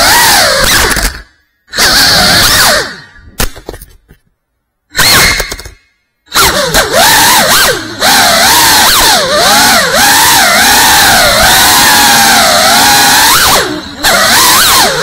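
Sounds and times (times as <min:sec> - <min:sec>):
drone motors whining: 0:00.0 - 0:03.4, 0:05.0 - 0:15.0.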